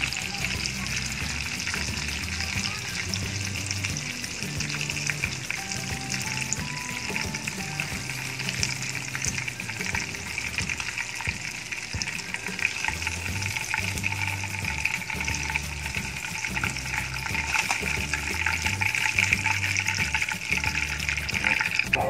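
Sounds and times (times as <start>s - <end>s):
food deep-frying in hot oil: 0.0s - 22.0s
tongs turning food in oil: 0.0s - 22.0s.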